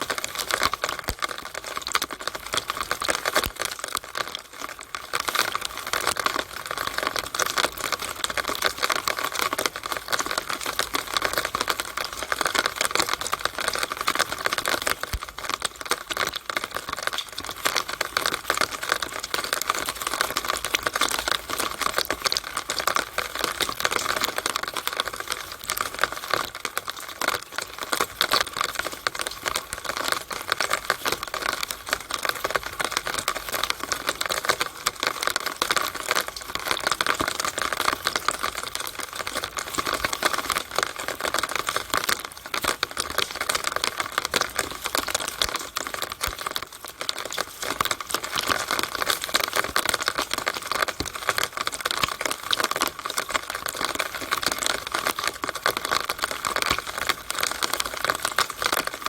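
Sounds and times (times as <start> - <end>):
rainwater running down a downspout: 0.0 - 59.0.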